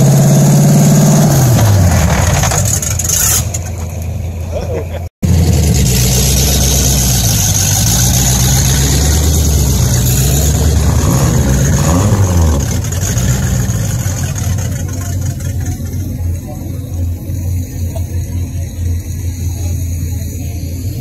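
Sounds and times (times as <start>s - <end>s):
pickup truck engine revving: 0.0s - 21.0s.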